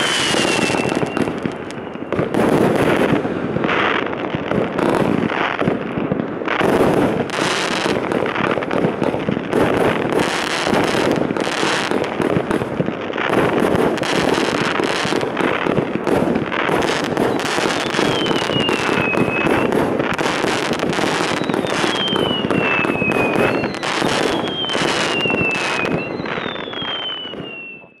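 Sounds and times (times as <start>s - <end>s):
falling firework whistles: 0.0s - 12.7s, 13.4s - 28.0s
fireworks barrage crackling: 0.0s - 28.0s.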